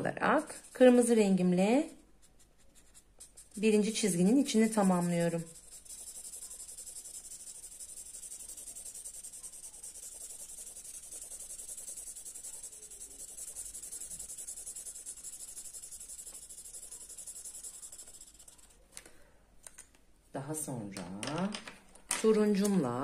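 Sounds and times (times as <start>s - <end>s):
marker scratching on paper: 0.4s - 18.8s.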